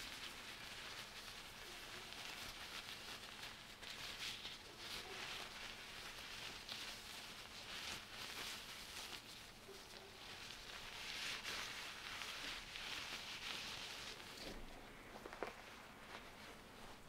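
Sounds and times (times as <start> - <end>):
glove crinkling and rustling: 0.0 - 17.0.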